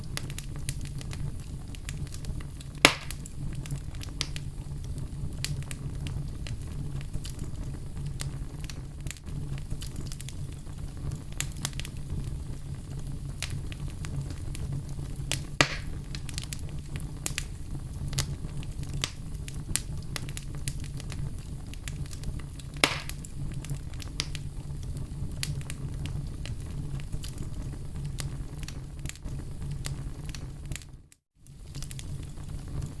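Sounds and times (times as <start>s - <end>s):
fire burning in a fireplace: 0.0s - 33.0s
fire crackles and pops: 0.0s - 33.0s.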